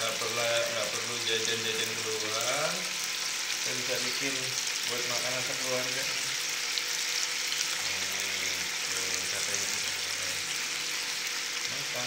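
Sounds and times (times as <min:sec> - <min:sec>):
skewers sizzling on grill pan: 0:00.0 - 0:12.0.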